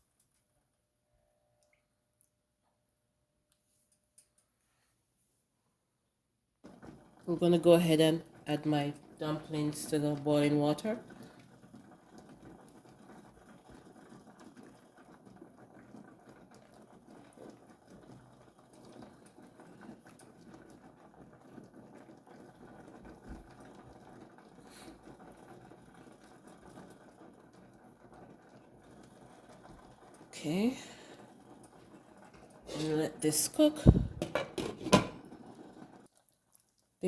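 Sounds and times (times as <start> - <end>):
water boiling in a pot: 6.6 - 37.0.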